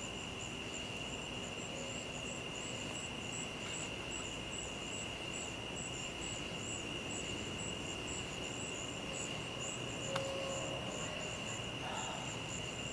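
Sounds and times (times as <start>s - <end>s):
insects trilling: 0.0s - 12.9s
pulsing insect chirp: 0.0s - 12.9s.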